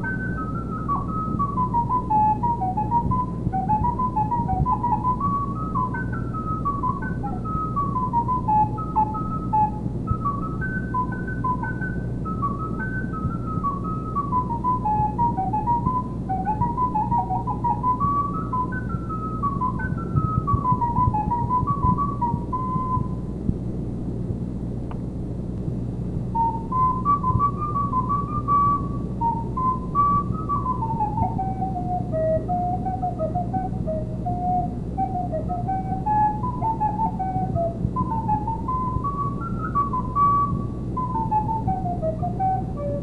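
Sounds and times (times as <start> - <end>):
recorder melody: 0.0 - 23.5, 26.2 - 43.0
steady low hum: 0.0 - 43.0.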